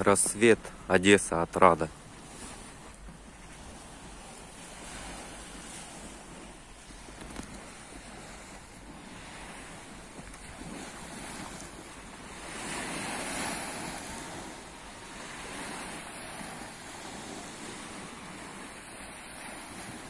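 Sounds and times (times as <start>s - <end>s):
small waves washing onto sand: 0.0s - 20.0s
wind on microphone: 2.1s - 20.0s.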